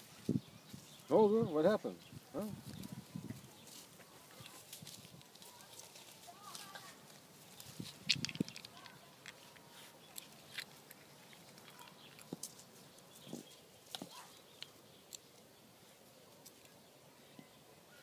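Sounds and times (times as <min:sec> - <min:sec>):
puppies scuffling in dry soil: 0:00.0 - 0:18.0.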